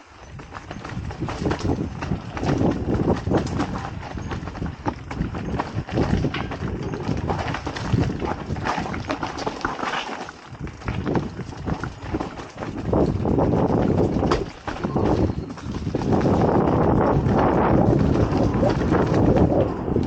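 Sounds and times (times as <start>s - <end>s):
bike knocks and rattles: 0.0s - 20.0s
tyre rumble: 0.0s - 20.0s.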